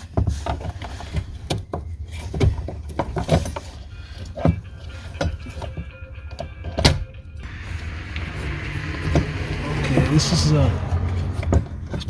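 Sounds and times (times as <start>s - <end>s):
knocks clicks and scraping: 0.0s - 12.0s.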